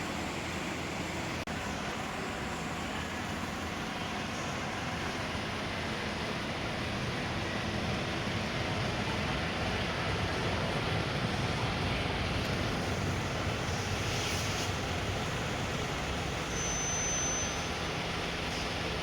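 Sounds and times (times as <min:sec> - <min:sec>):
jet airliner engine noise: 0:00.0 - 0:19.0.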